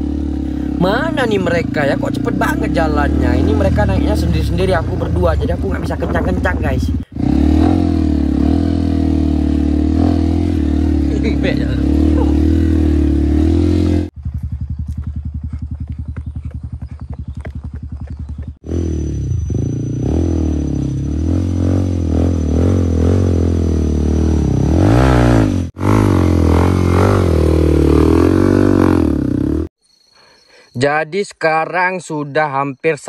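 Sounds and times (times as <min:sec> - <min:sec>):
motorcycle engine revving: 0:00.0 - 0:29.7.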